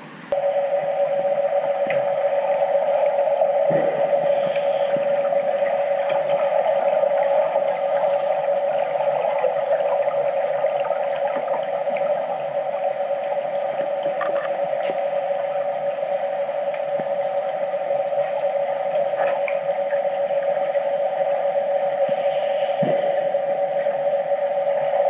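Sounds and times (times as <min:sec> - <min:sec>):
underwater hum: 0:00.0 - 0:25.0
faint crackles: 0:00.3 - 0:25.0
bubbles: 0:00.4 - 0:25.0.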